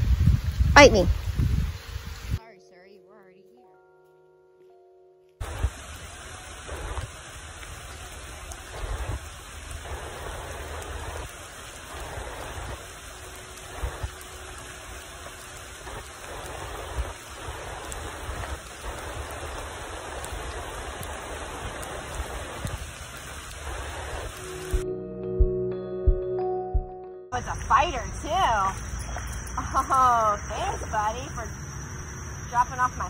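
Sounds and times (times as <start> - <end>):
heavy rain on a pond: 0.0 - 2.4, 5.4 - 24.8, 27.4 - 33.0.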